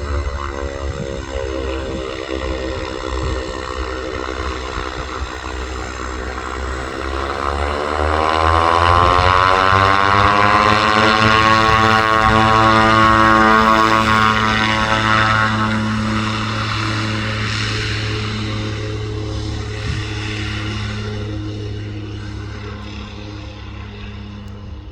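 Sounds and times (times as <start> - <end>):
engine whine: 0.0 - 24.9
propeller aircraft engines: 0.0 - 24.9.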